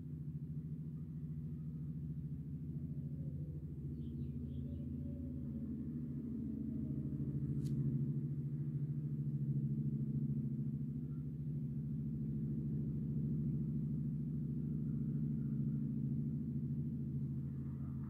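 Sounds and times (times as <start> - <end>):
low droning tone with wavering pulse: 0.0 - 18.0.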